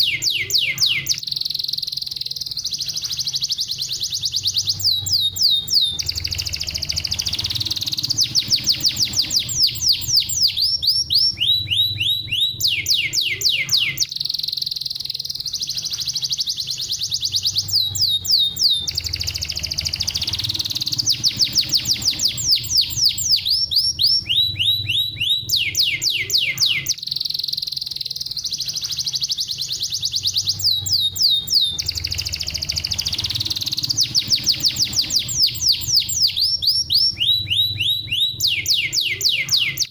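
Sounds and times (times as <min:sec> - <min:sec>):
canary singing: 0:00.0 - 0:39.9
faint low hum: 0:00.0 - 0:39.9.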